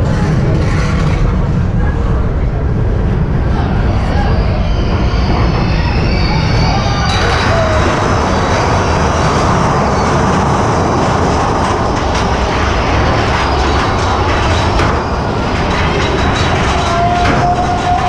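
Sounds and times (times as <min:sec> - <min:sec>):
roller coaster rumbling and rattling: 0:00.0 - 0:18.0.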